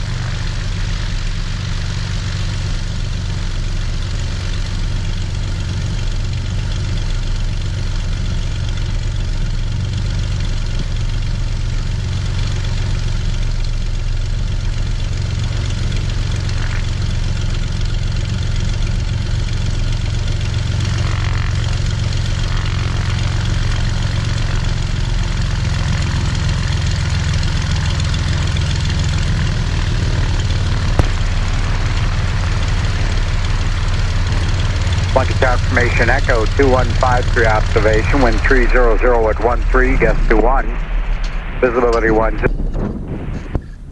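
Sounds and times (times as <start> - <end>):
propeller plane engine humming: 0.0 - 43.9.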